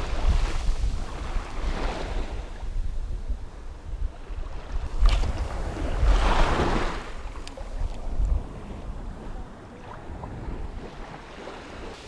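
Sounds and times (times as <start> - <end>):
small waves washing in surf: 0.0 - 12.0
wind buffeting microphone: 0.0 - 12.0.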